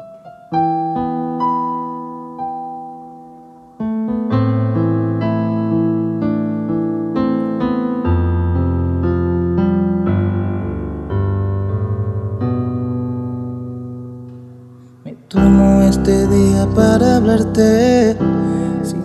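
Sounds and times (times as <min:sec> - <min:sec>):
electronic keyboard piano chords: 0:00.0 - 0:19.0.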